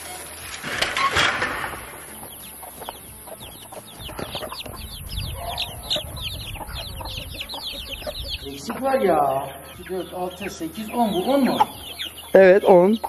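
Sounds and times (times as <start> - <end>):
chicks peeping: 1.7 - 13.0
hen clucking: 2.1 - 13.0.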